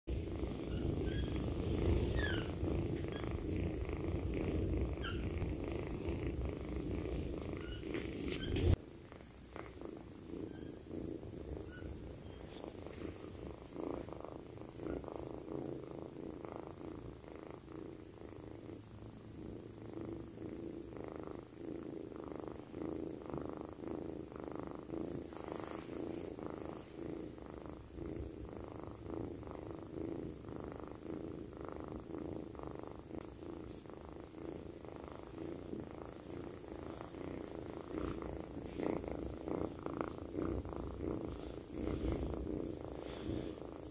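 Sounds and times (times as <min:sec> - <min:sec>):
kitten purring: 0:00.0 - 0:43.9.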